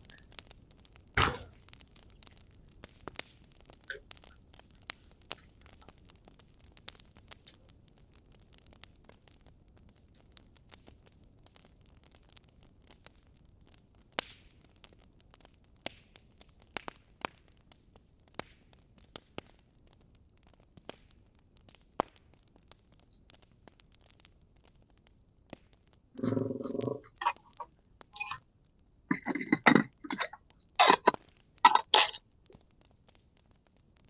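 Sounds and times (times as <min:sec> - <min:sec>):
low steady hiss: 0:00.0 - 0:34.0
sharp clicks and crackles: 0:00.0 - 0:34.0.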